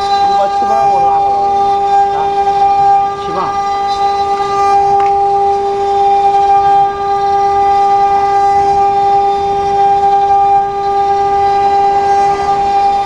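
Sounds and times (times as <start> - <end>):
router spindle high-pitched whine: 0.0 - 13.0.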